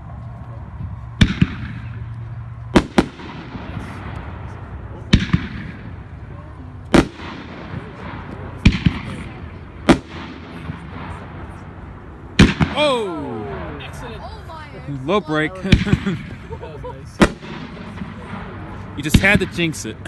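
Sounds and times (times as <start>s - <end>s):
steady background rush: 0.0s - 20.0s
fireworks bursting: 1.2s - 14.4s, 15.6s - 20.0s.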